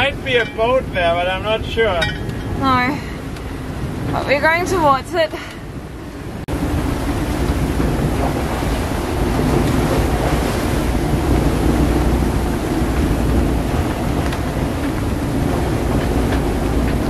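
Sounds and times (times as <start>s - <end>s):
waves rushing: 0.0s - 17.0s
wind buffeting microphone: 0.0s - 17.0s.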